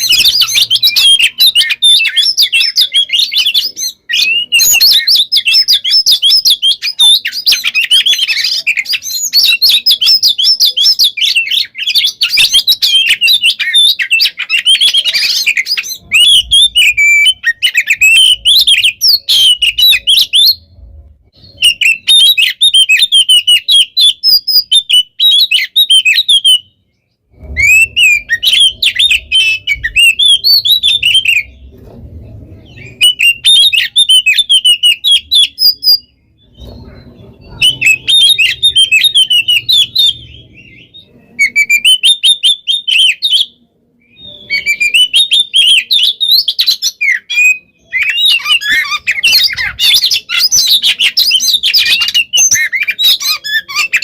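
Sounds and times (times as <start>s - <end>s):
bird singing whistled trills: 0.0s - 31.7s, 32.6s - 54.0s.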